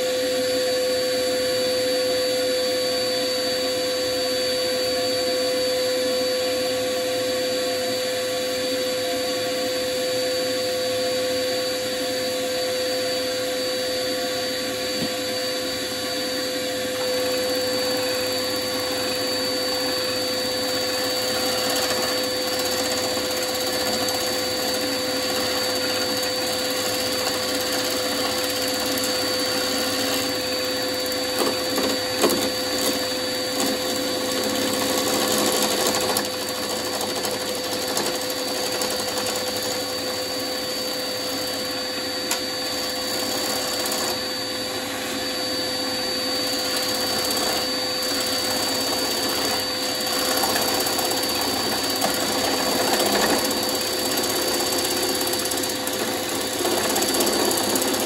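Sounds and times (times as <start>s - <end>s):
wood lathe whine: 0.0s - 58.0s.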